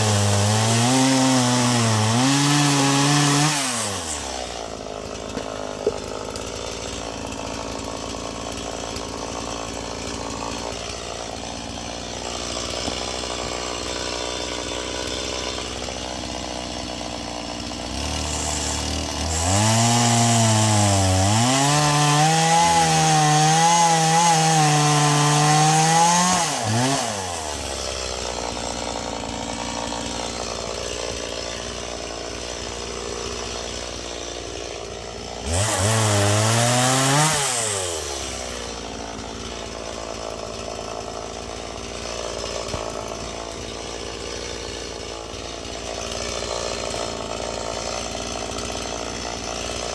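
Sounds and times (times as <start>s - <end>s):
chainsaw cutting log at full throttle: 0.0s - 49.9s
chainsaw idling: 0.0s - 49.9s.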